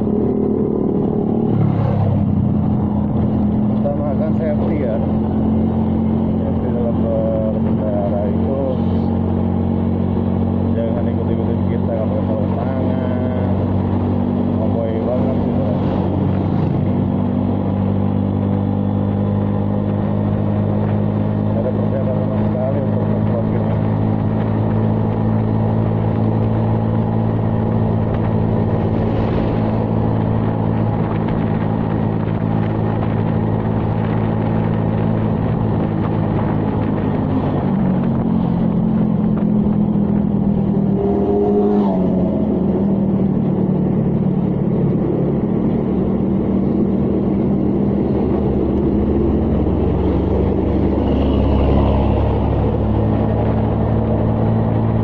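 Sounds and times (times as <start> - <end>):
deep rumble: 0.0 - 55.0
vehicle engine and road noise: 0.0 - 55.0.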